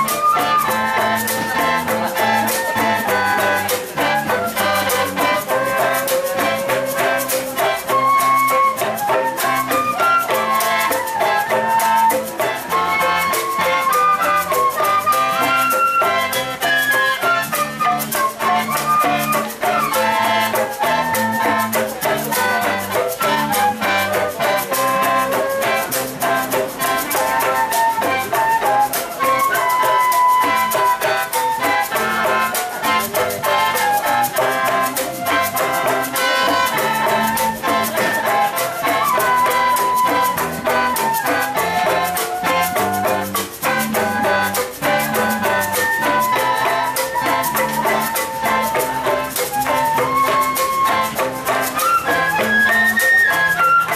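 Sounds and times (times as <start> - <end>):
bamboo mouth organ melody: 0.0 - 53.9
handheld bamboo tube percussion: 0.0 - 53.9.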